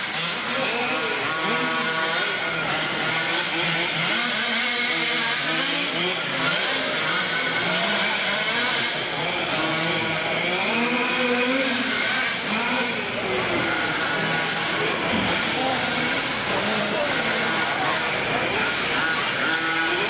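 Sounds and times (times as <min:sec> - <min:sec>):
small engines revving: 0:00.0 - 0:20.0.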